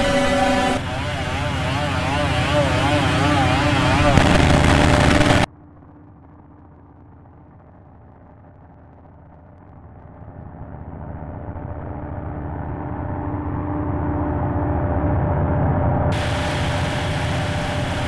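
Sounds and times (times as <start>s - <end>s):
machinery drone: 0.0s - 18.0s.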